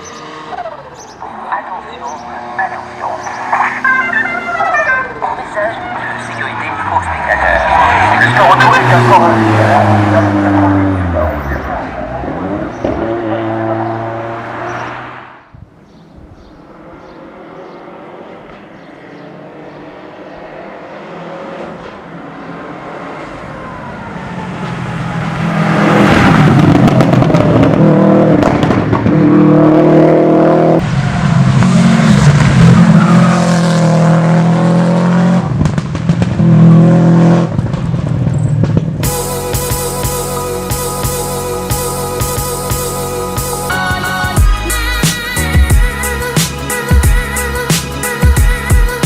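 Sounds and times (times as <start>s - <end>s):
rally car engine revving: 0.0s - 15.5s, 16.6s - 44.2s.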